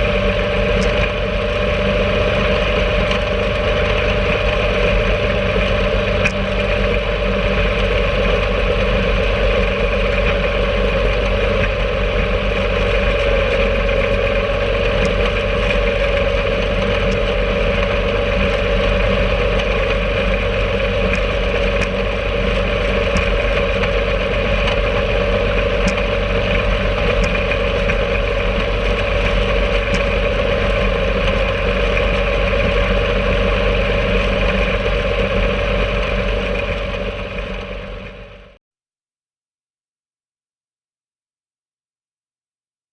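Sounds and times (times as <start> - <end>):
rail cart engine running: 0.0 - 38.6.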